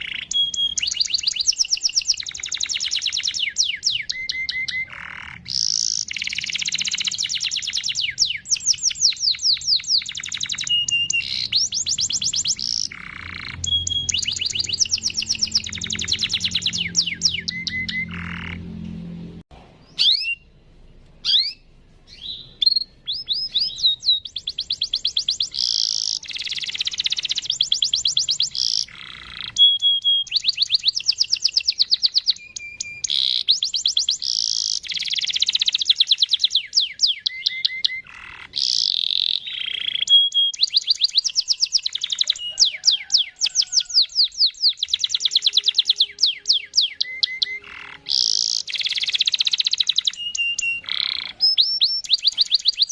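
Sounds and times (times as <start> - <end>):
canary singing trills: 0.0 - 19.0, 19.8 - 52.9.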